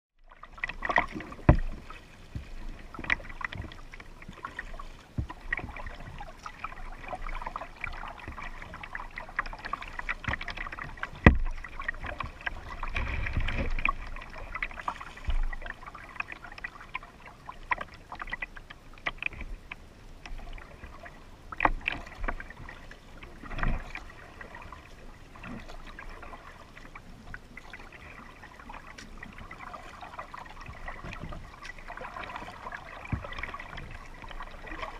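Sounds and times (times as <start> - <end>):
paddle splashing in water: 0.2 - 34.9.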